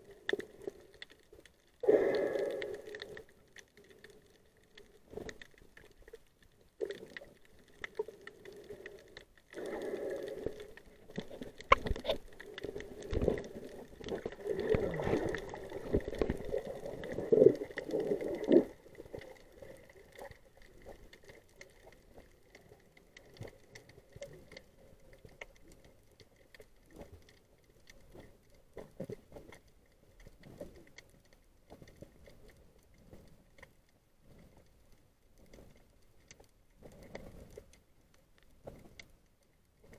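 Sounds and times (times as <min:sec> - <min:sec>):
faint clicks and crackles: 0:00.0 - 0:39.9
muffled underwater water noise: 0:00.0 - 0:39.9.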